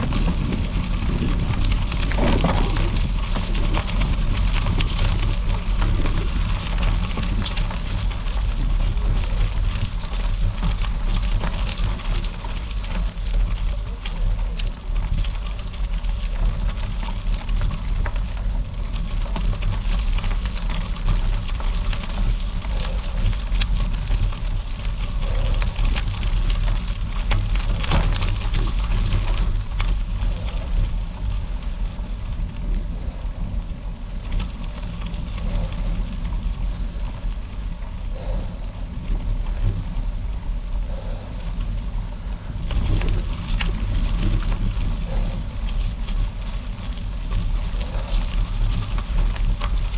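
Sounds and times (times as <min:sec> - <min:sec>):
bicycle tyres rolling on gravel: 0:00.0 - 0:49.9
gravel crackles: 0:00.0 - 0:49.9
wind rumble on microphone: 0:00.0 - 0:49.9.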